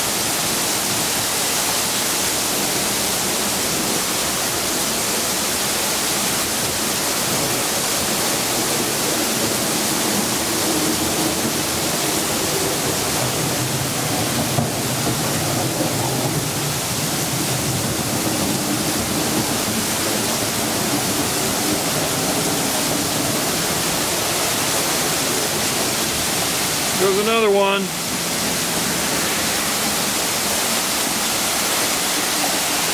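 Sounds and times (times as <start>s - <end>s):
heavy rain downpour: 0.0s - 32.9s.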